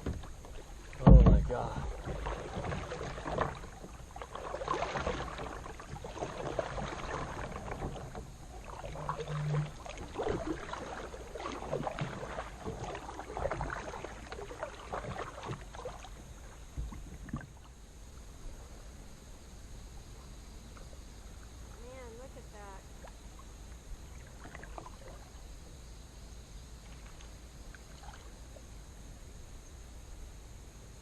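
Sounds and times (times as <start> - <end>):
paddle splashes: 0.0 - 19.0, 20.0 - 25.7, 26.8 - 28.7
water lapping around hull: 0.0 - 31.0.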